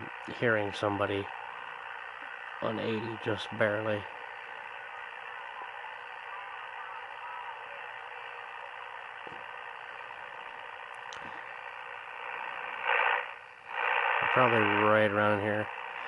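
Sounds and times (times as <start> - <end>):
radio static hiss: 0.0 - 16.0
weak radio station: 0.0 - 16.0.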